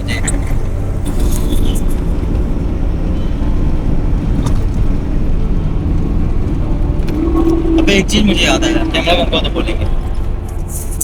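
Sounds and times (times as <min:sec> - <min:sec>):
moving vehicle rumble: 0:00.0 - 0:11.0
road traffic: 0:00.0 - 0:11.0.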